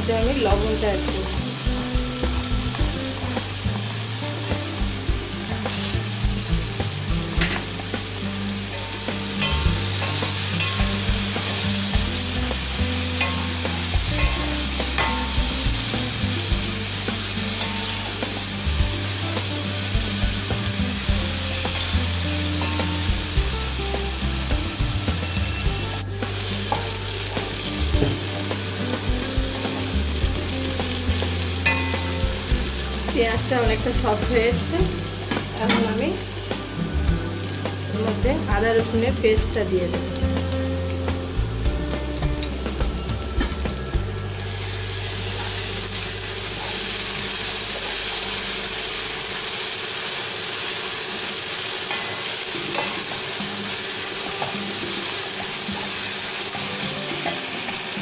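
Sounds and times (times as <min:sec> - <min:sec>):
onions sizzling in oil: 0:00.0 - 0:58.0.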